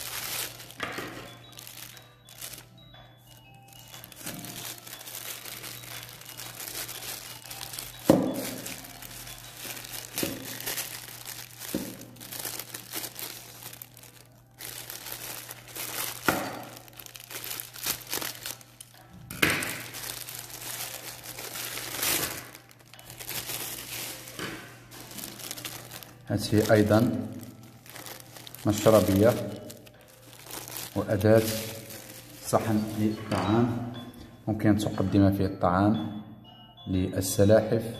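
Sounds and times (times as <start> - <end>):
plastic packaging crinkling: 0.0 - 33.2.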